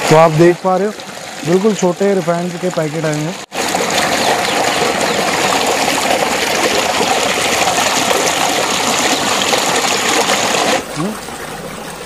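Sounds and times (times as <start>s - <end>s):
water gushing into tank: 0.0s - 12.0s.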